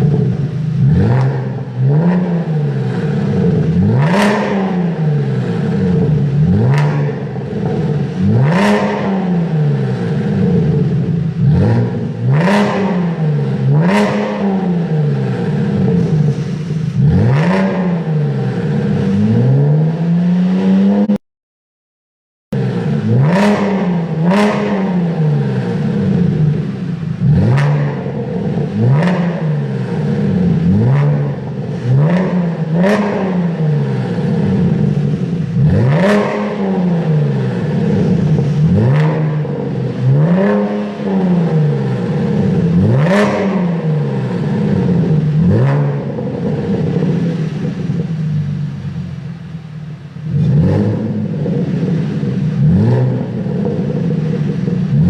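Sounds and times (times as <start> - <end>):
car engine idling: 0.0 - 20.0, 22.6 - 55.0
car engine revving: 0.0 - 21.2, 22.5 - 55.0.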